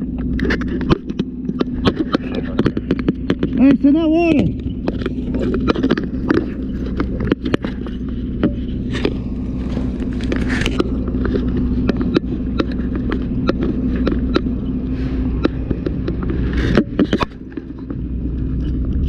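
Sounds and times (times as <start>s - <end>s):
fire engine running: 0.0s - 19.0s.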